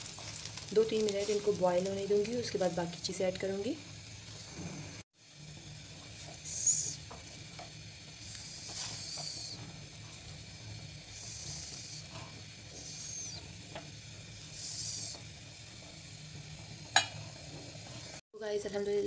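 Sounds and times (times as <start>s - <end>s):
soup boiling with hissing: 0.0s - 18.2s.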